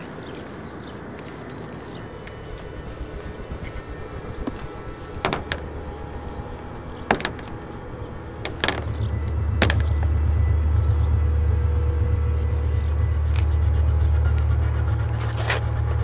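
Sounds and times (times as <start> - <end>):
steady low rumble: 1.7 - 16.0.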